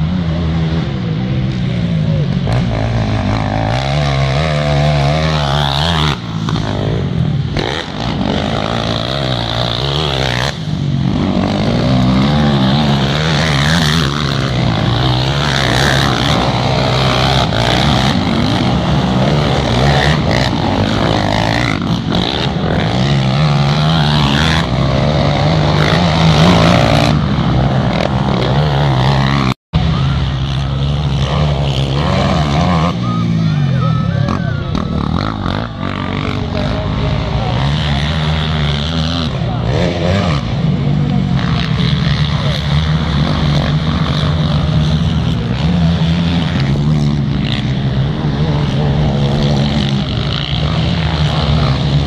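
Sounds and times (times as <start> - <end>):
quad engines revving: 0.0 - 52.0.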